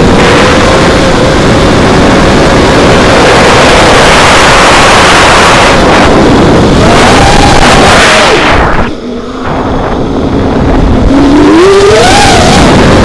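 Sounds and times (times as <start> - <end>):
drone motors whining: 0.0 - 13.0
wind rush on microphone: 0.0 - 13.0.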